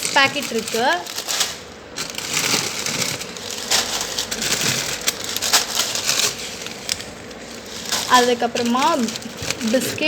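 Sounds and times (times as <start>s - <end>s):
plastic packets crinkling: 0.0s - 10.0s.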